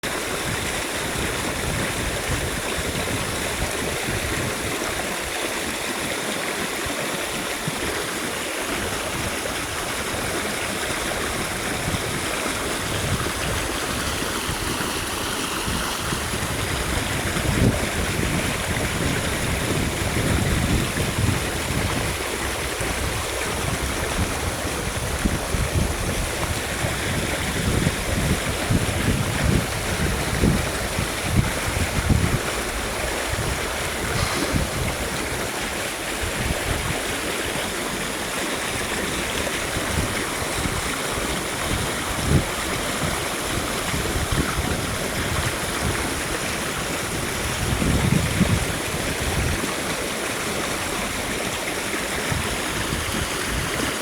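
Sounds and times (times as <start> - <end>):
running water rushing: 0.0 - 54.0
wind buffeting microphone: 0.1 - 8.1, 8.7 - 54.0.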